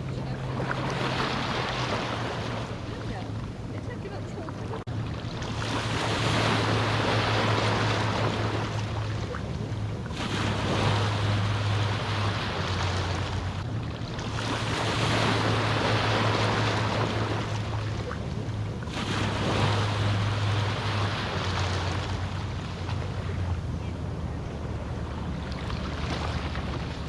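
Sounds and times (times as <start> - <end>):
small waves washing ashore: 0.0 - 27.0
steady low hum: 0.0 - 27.0.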